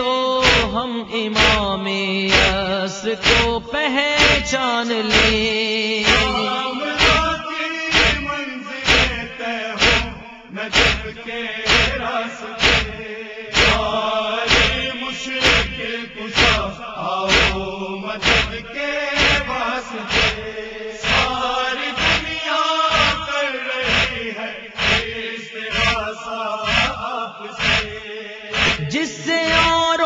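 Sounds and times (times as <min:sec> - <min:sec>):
voices chanting a lament: 0:00.0 - 0:30.0
mourners beating chests: 0:00.4 - 0:00.8, 0:02.3 - 0:26.0.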